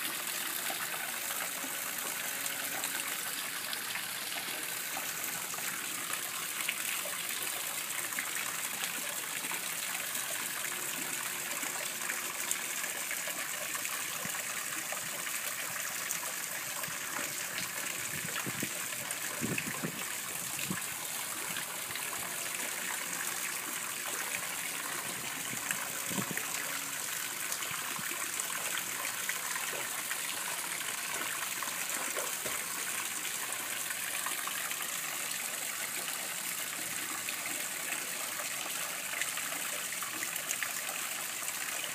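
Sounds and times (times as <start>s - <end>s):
water running and trickling: 0.0s - 41.9s.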